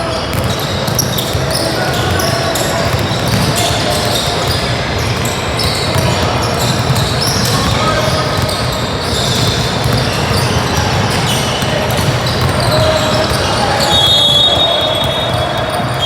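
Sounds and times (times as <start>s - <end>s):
basketball bouncing on court: 0.0s - 16.0s
hubbub of voices: 0.0s - 16.0s.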